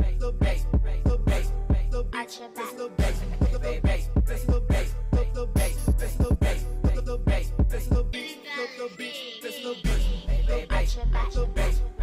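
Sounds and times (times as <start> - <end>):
hip hop music: 0.0 - 12.0.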